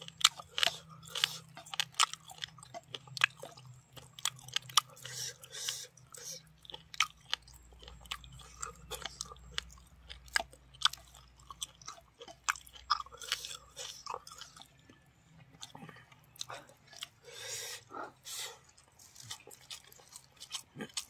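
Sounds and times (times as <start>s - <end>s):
mouth chewing with crunches: 0.0s - 21.0s.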